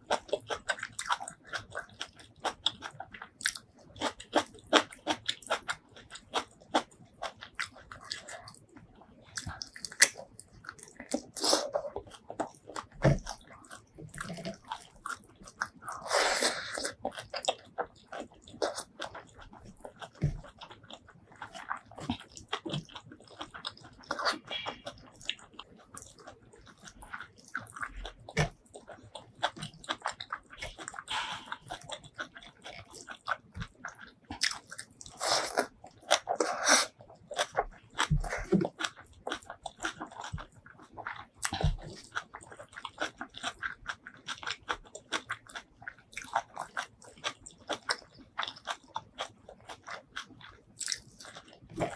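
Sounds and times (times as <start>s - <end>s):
person chewing and biting food: 0.1s - 51.9s.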